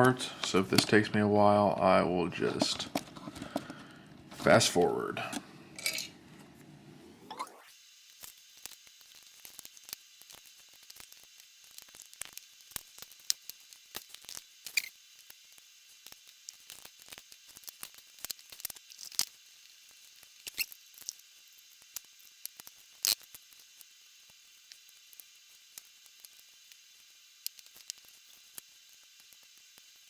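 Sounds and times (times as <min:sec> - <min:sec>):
faint steady hiss: 0:00.0 - 0:30.0
small metallic clicks and scrapes: 0:02.4 - 0:06.2, 0:08.2 - 0:30.0.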